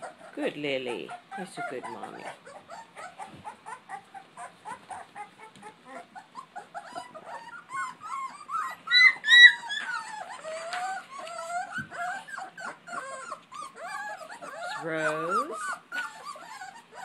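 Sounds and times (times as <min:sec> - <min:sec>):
puppies squealing and whimpering: 0:00.0 - 0:17.0
puppy yelps: 0:01.0 - 0:17.0.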